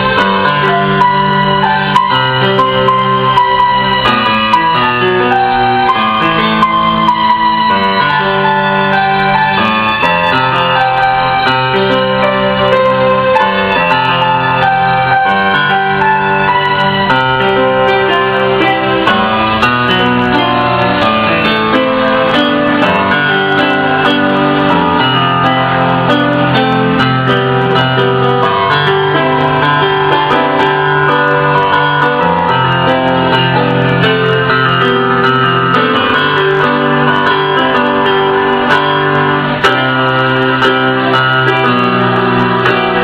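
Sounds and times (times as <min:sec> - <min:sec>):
electronic keyboard music: 0:00.0 - 0:43.0.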